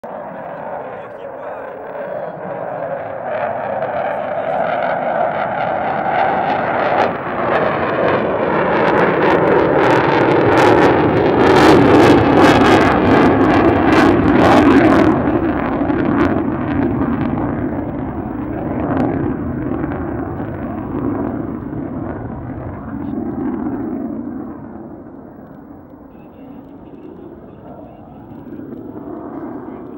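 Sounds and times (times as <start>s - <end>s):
jet engine rumble with crackle: 0.0s - 29.9s.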